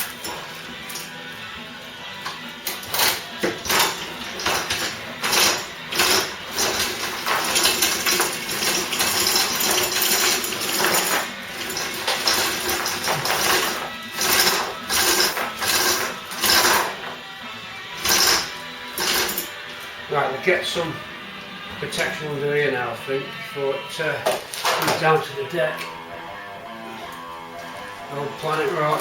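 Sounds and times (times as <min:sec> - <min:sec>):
faint rock music on radio: 0:00.0 - 0:29.0
rattling and scraping of tools: 0:00.0 - 0:29.0.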